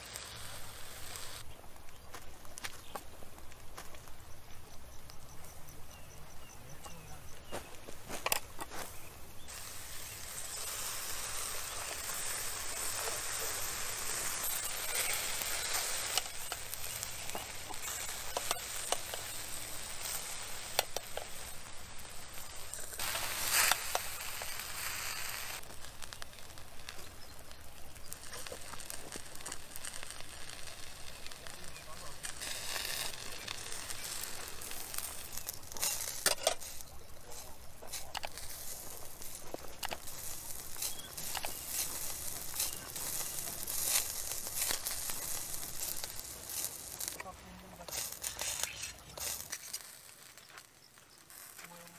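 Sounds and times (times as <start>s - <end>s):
meat sizzling and crackling: 0.0s - 6.6s, 8.1s - 51.9s.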